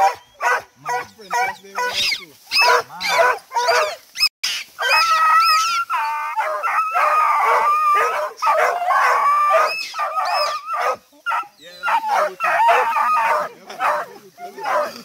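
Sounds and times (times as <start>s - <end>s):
dogs whining and howling: 0.0s - 14.9s
dogs yelping and barking: 0.0s - 15.0s.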